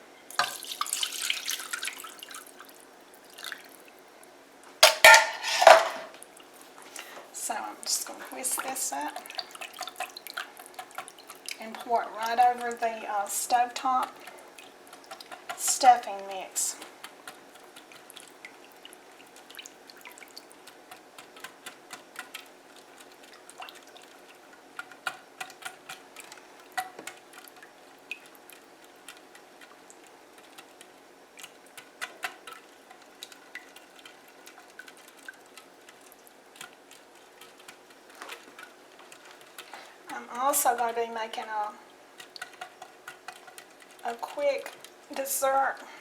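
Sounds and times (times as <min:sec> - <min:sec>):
wet stirring: 0:00.3 - 0:04.1, 0:04.8 - 0:46.0.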